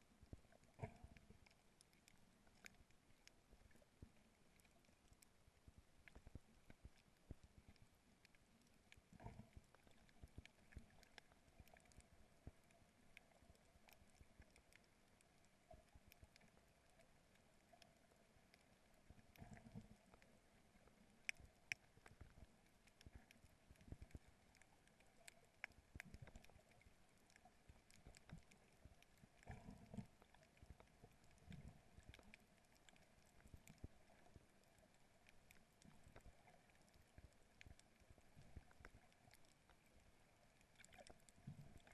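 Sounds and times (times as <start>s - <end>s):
small underwater clicks and crackles: 0.0s - 41.9s.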